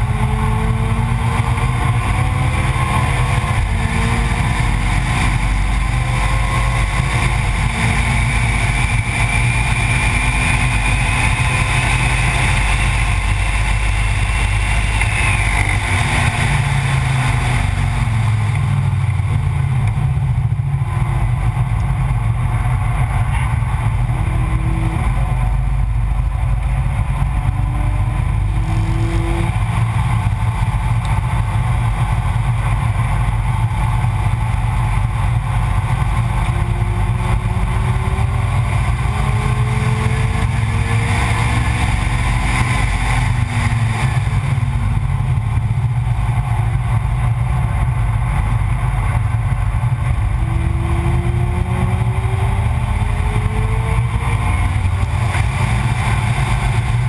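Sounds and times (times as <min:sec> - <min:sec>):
car engine accelerating: 0:00.0 - 0:57.0
wind and road rumble: 0:00.0 - 0:57.0.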